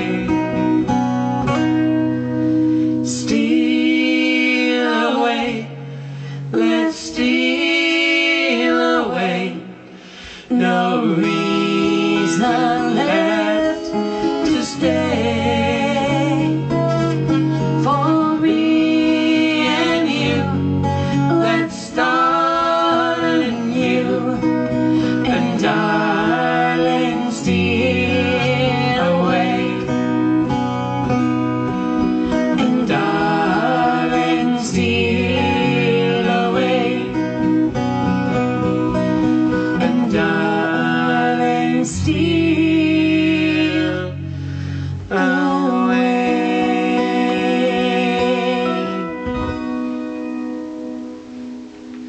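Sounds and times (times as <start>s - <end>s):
band music with guitar and bass: 0.0s - 7.8s, 8.8s - 52.0s.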